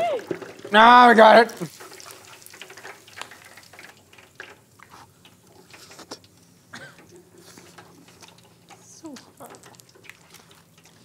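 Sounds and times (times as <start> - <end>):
hot fat popping and ticking: 0.0 - 11.0.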